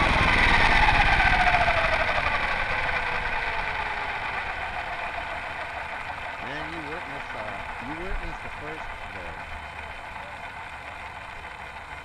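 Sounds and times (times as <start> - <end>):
helicopter motor whine spinning down: 0.0 - 9.8.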